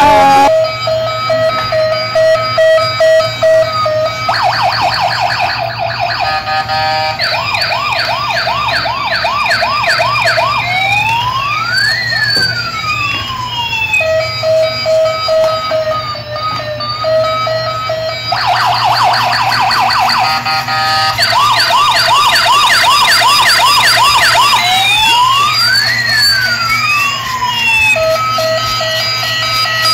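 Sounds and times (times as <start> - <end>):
toy siren wailing and beeping: 0.0 - 29.9.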